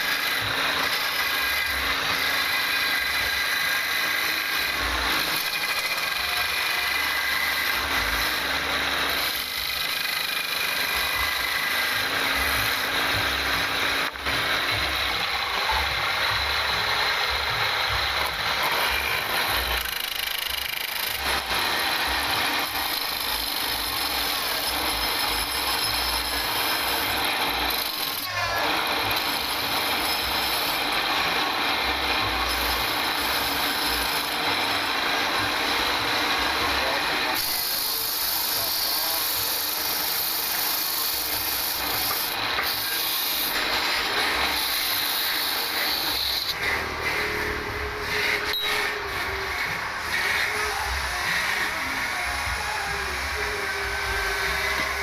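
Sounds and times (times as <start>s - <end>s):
turning tool cutting wood: 0.0s - 55.0s
wood lathe running: 0.0s - 55.0s.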